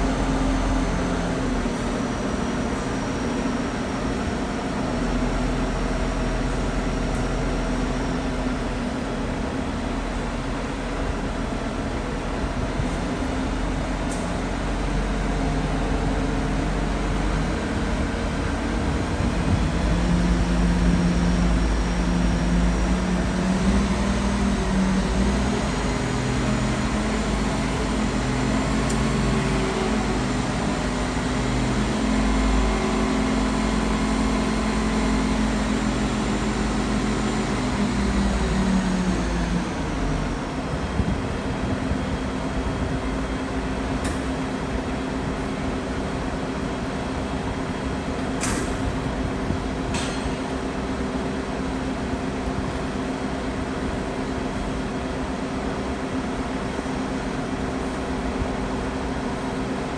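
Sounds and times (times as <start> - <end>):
heavy machinery engine drone: 0.0 - 59.9.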